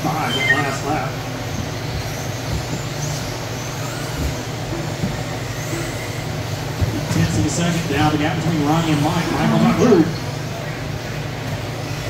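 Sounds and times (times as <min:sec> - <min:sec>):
steady low hum: 0:00.0 - 0:11.9
rc car motors whining: 0:00.0 - 0:12.0.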